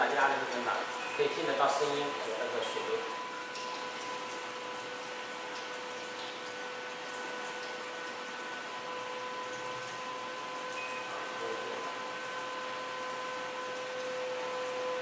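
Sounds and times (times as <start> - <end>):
booster pump whining: 0.0 - 15.0
water rushing from outlet: 0.0 - 15.0.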